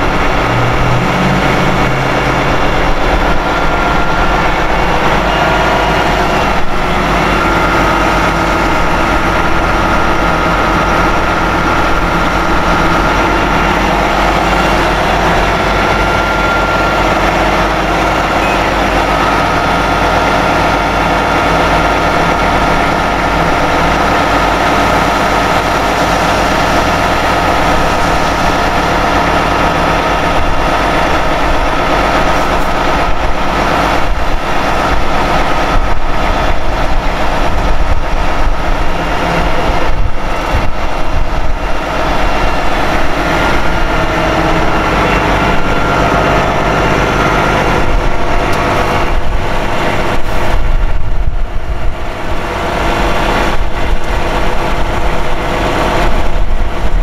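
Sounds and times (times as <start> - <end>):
diesel engine running: 0.0 - 57.0
high-pitched whine: 0.0 - 57.0.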